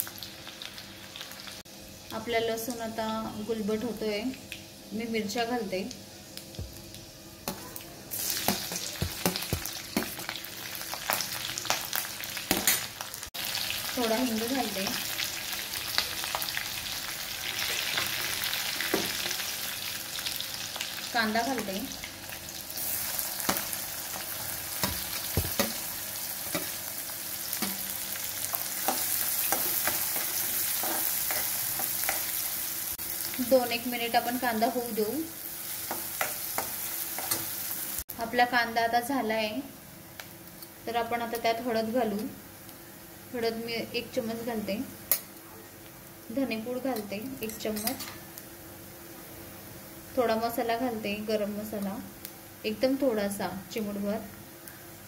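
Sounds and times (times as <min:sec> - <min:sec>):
chillies sizzling in hot oil: 0:00.0 - 0:55.0.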